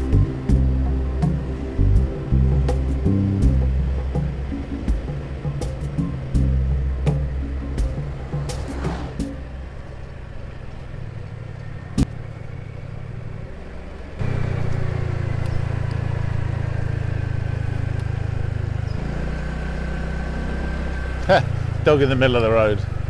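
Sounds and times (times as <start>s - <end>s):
scooter engine running: 0.0s - 23.0s
wind and road noise: 0.0s - 23.0s.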